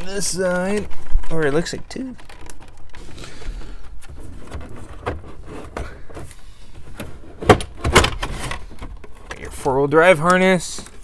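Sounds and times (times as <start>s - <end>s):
plastic rustling and clicking: 0.0s - 11.0s.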